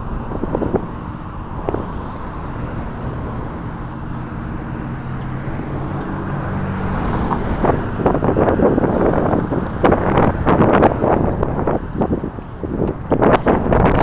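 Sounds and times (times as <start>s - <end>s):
vehicle engine humming: 0.0s - 14.0s
wind noise on microphone: 0.0s - 14.0s.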